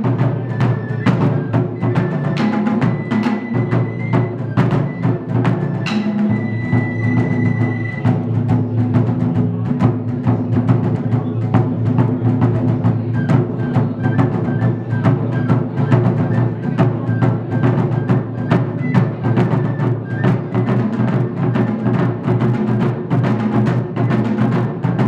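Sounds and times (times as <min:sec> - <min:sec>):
bamboo flute melody: 0:00.0 - 0:25.0
taiko drums rhythm: 0:00.0 - 0:25.0.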